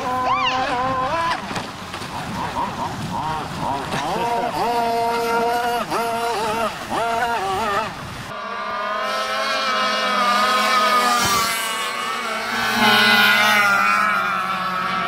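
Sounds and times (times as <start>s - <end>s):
toy speed boat motor whine: 0.0s - 1.5s, 2.5s - 15.0s.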